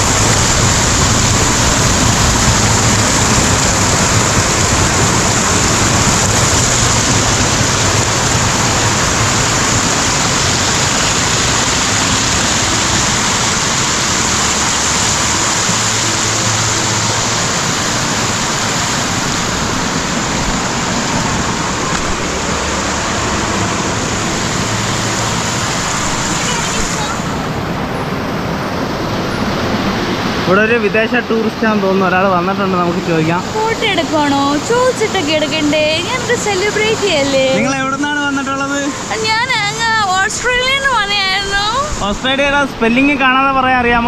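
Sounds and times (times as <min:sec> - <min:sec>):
waterfall rushing over rocks: 0:00.0 - 0:44.0.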